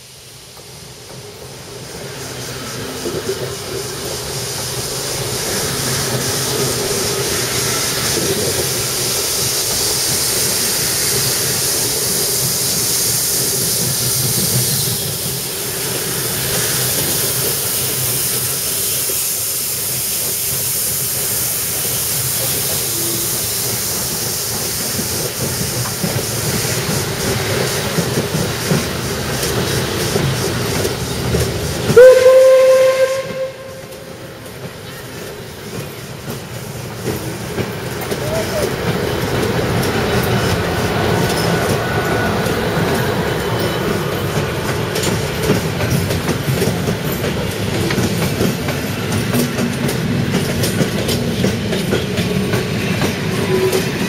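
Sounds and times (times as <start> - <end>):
steam locomotive hissing: 0.0 - 54.0
train coaches rolling past: 0.0 - 54.0.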